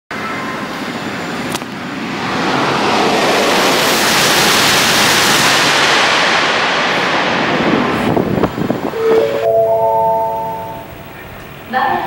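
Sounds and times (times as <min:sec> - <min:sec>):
high-speed train passing: 0:00.1 - 0:12.0.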